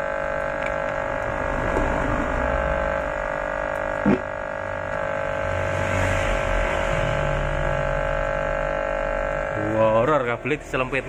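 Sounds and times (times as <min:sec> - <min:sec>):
amplifier electrical hum: 0:00.0 - 0:11.0.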